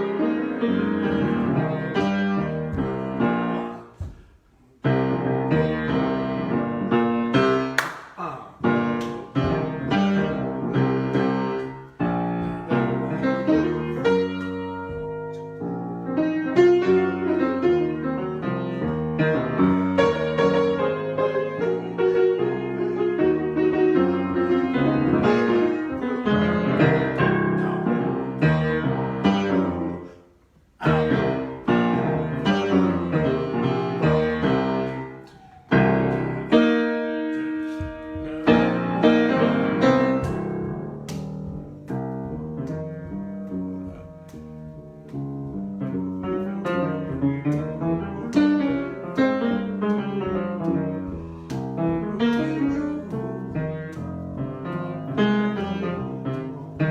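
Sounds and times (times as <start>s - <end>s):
piano improvisation: 0.0s - 56.9s.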